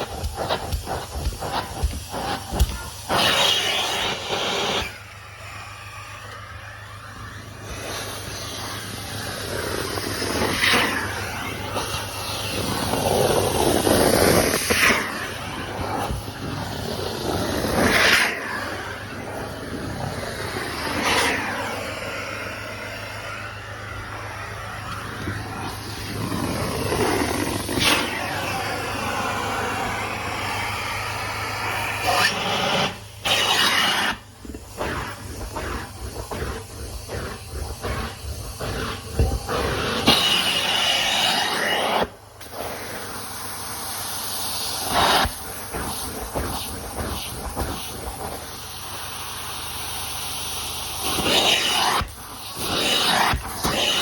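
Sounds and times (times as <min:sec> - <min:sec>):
carpet extractor rushing hiss: 0:00.0 - 0:54.0.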